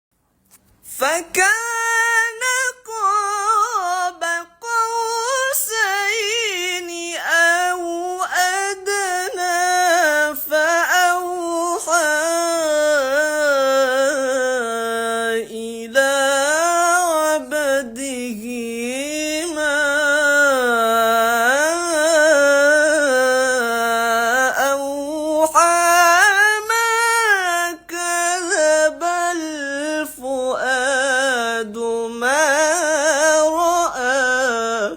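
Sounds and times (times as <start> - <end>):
person reciting melodically: 0.8 - 34.9.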